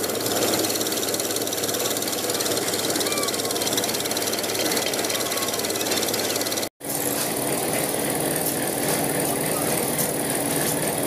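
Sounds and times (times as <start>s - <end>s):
engine hum: 0.0s - 11.0s
small engine knocking rapidly: 0.0s - 11.0s.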